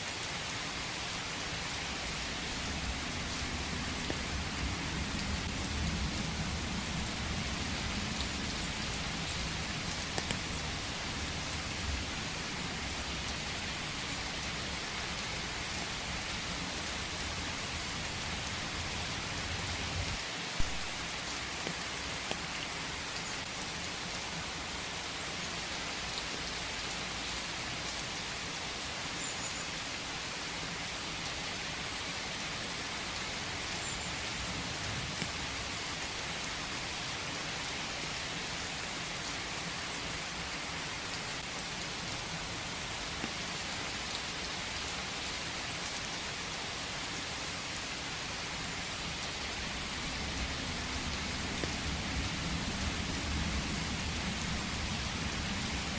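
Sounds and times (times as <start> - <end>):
rain on foliage: 0.0 - 55.9.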